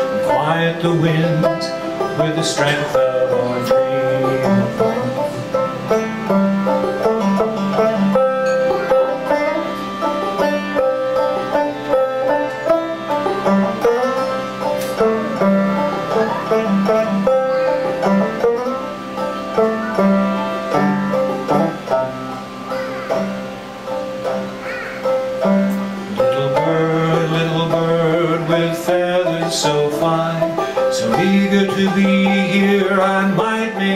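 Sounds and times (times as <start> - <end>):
banjo picking melody: 0.0 - 33.9
harmonium chords: 0.0 - 33.9.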